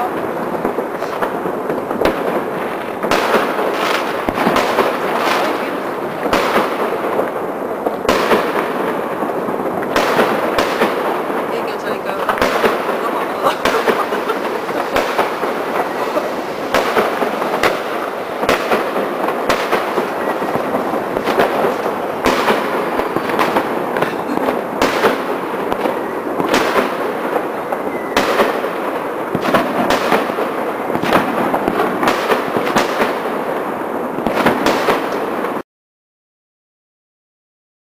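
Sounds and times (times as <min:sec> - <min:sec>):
firework bangs: 0:00.0 - 0:35.6
fireworks crackling: 0:00.0 - 0:35.6.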